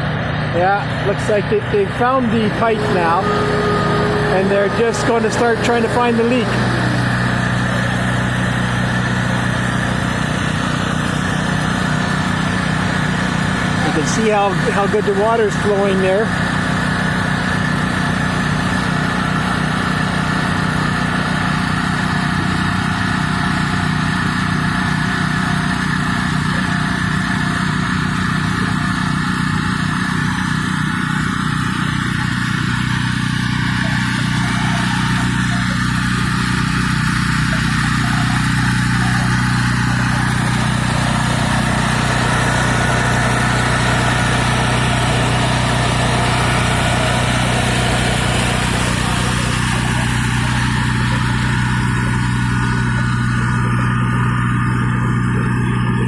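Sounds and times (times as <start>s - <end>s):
heavy digging equipment engine running: 0.0s - 56.0s.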